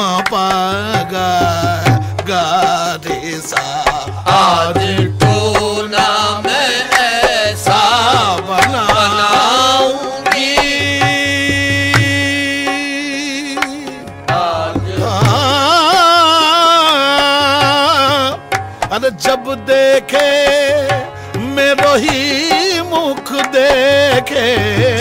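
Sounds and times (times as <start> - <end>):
men singing: 0.0 - 25.0
tabla: 0.0 - 25.0.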